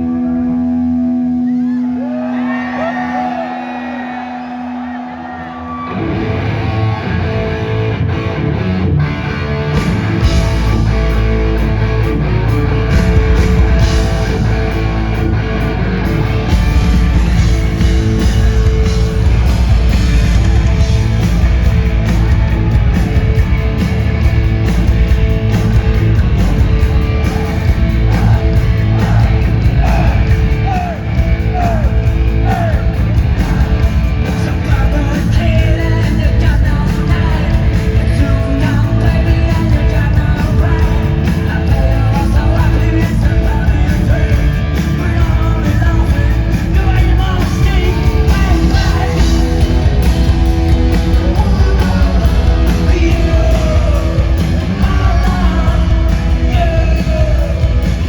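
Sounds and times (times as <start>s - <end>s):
punk rock band playing: 5.6s - 58.0s.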